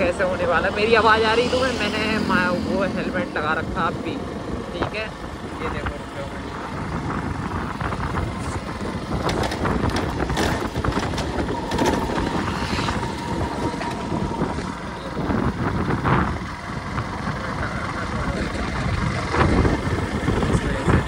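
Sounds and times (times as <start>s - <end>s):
motorcycle engine running: 0.0s - 21.0s
wind rushing over microphone: 0.0s - 21.0s.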